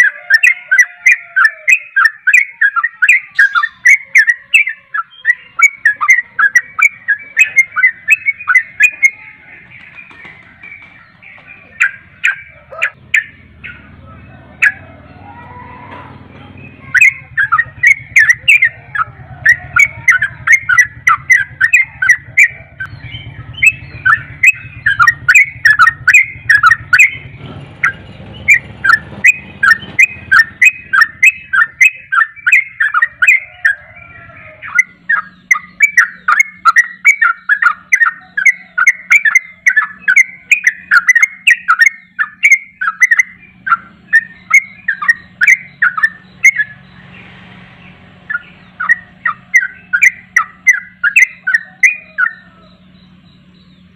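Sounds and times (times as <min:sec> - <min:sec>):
bird chirping song: 0:00.0 - 0:53.9.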